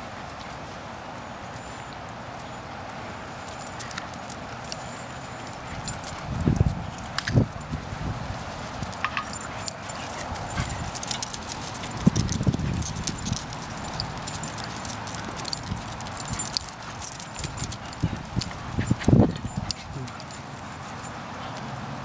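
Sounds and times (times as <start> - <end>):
dogs scuffling: 3.2 - 22.0.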